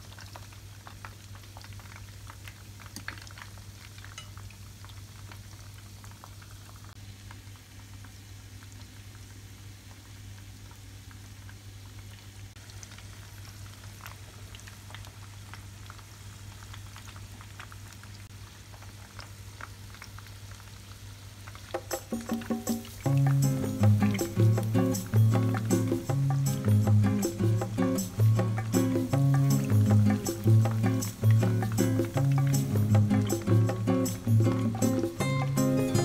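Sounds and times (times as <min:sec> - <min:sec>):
hot oil bubbling: 0:00.0 - 0:36.0
oil crackling and popping: 0:00.0 - 0:36.0.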